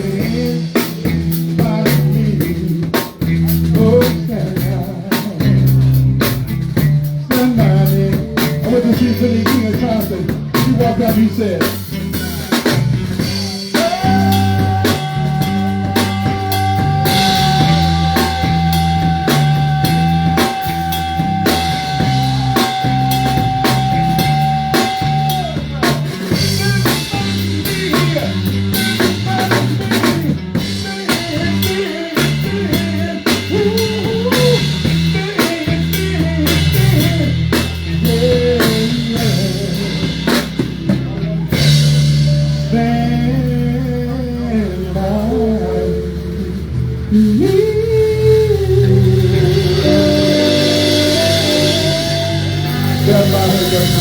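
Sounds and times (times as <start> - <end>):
bass: 0.0 - 54.0
drum kit beat: 0.0 - 54.0
guitar: 0.0 - 54.0
soul band playing: 0.0 - 54.0.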